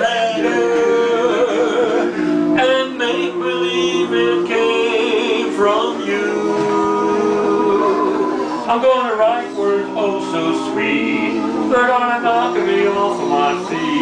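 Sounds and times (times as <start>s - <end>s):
men singing a cappella harmony: 0.0s - 14.0s.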